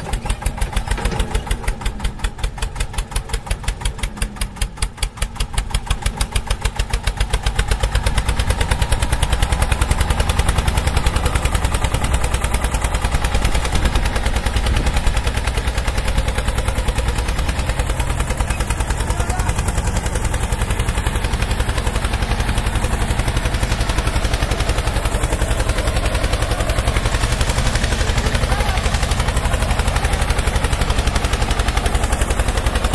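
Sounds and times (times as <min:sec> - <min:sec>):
tractor engine thumping: 0:00.0 - 0:32.9.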